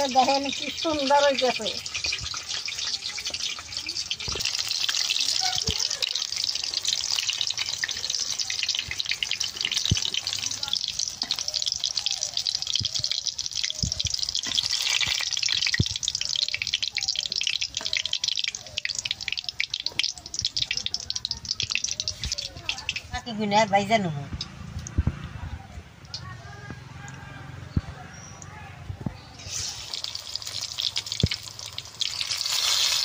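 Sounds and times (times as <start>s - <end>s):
food deep-frying in oil: 0.0s - 26.3s, 29.0s - 33.0s.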